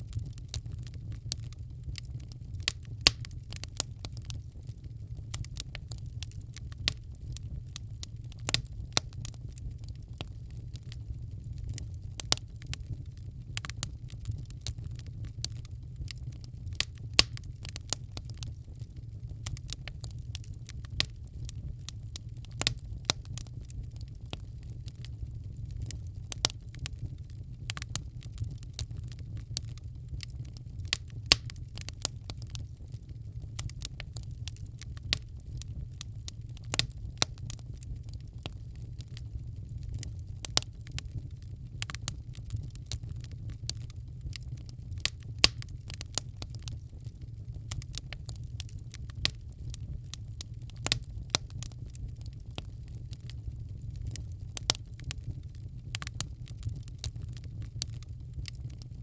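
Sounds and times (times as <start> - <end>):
fire low rumble: 0.0 - 59.0
wood fire crackling: 0.0 - 59.0.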